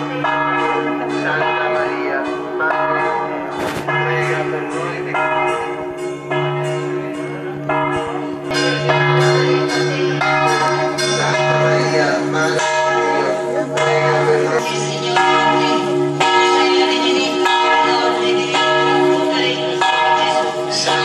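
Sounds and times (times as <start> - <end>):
church bells ringing a peal: 0.0 - 21.0.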